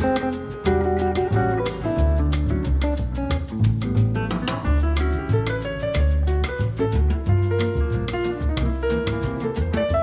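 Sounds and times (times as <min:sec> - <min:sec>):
instrumental bossa nova music: 0:00.0 - 0:10.0.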